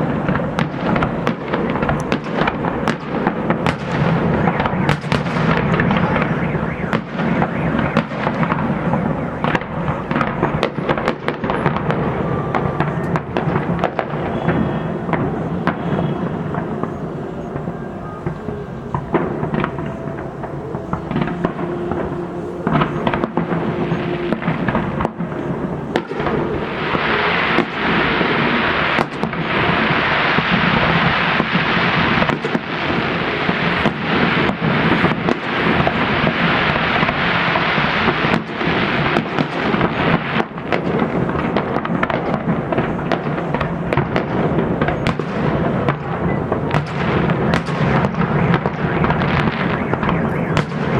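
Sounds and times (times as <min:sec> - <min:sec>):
fireworks booming and cracking: 0:00.0 - 0:50.9.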